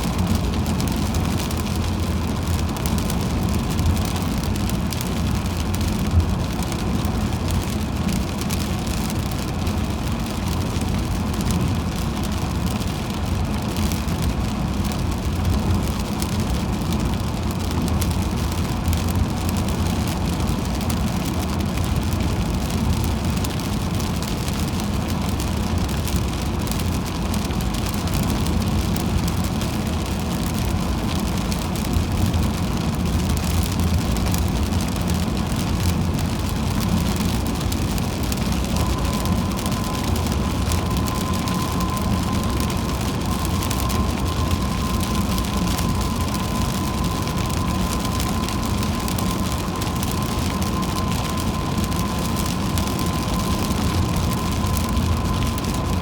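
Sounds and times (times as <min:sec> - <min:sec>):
rain and spray hissing: 0:00.0 - 0:56.0
road and tyre noise: 0:00.0 - 0:56.0.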